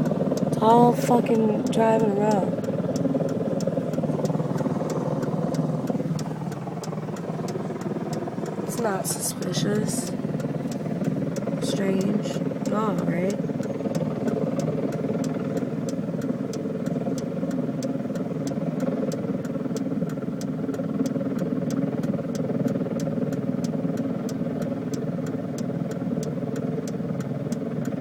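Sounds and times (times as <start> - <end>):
car engine and road noise: 0.0 - 28.0
faint even ticking: 0.0 - 28.0.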